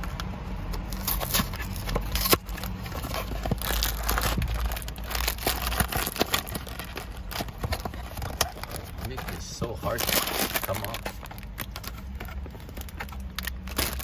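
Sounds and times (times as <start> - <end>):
cardboard box crinkling and tearing: 0.0 - 14.0.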